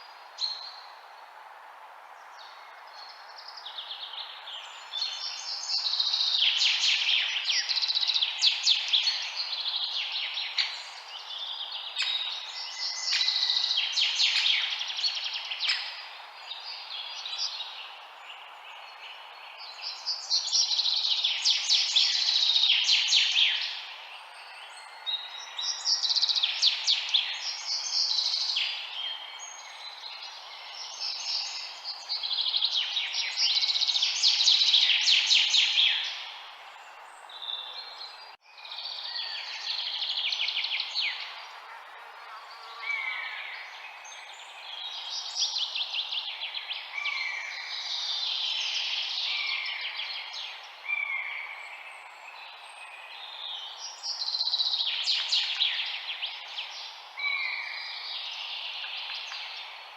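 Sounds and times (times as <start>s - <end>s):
background hiss: 0.0s - 59.9s
songbirds chirping and trilling: 0.0s - 59.9s.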